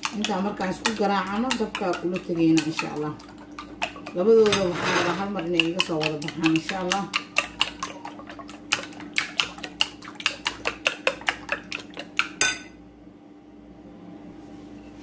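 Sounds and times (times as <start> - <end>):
utensil beating eggs in bowl: 0.0 - 12.7.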